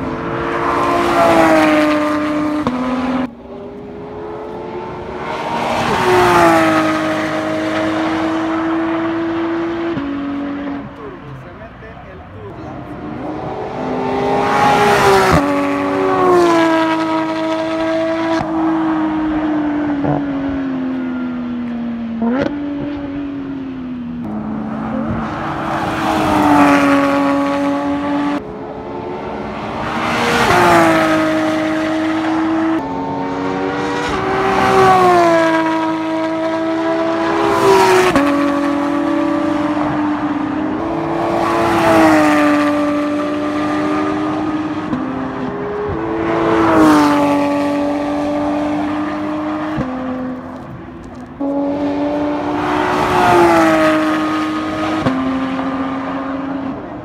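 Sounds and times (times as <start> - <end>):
sports car engine revving: 0.0 - 57.0.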